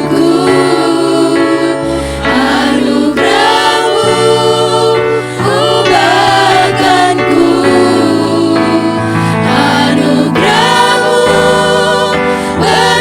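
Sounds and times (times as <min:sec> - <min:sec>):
choir singing gospel song: 0:00.0 - 0:13.0.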